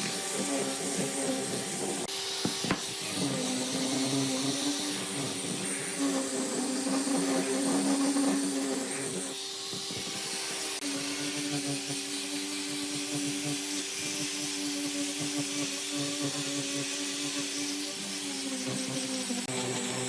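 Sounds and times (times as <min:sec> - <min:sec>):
electric power tool humming: 0:00.0 - 0:20.0.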